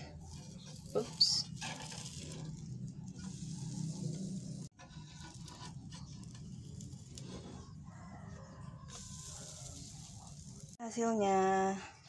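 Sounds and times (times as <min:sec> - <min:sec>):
metal spatula scraping a pan: 0:00.0 - 0:07.8, 0:08.9 - 0:10.8
batter sizzling in a pan: 0:00.0 - 0:10.8.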